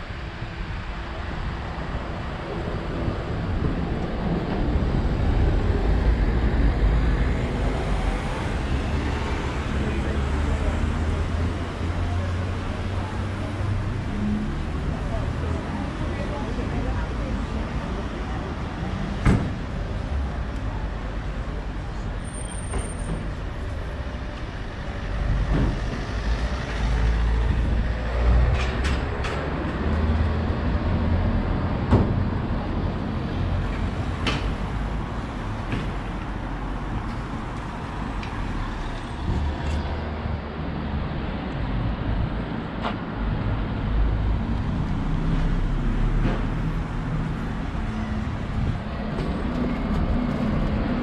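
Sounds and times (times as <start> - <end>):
heavy vehicle engine rumble: 0.0 - 51.0
steady traffic hum: 0.0 - 51.0.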